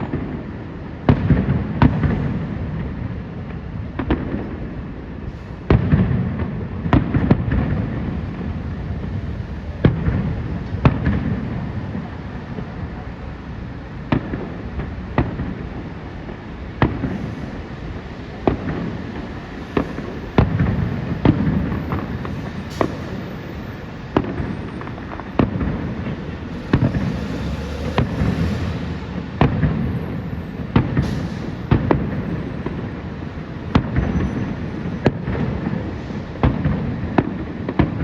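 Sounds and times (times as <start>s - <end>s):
fireworks booming: 0.0s - 38.0s.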